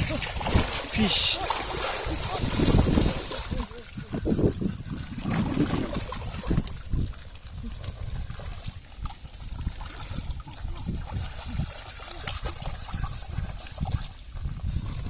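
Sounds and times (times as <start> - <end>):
shallow water splashing: 0.0 - 15.0.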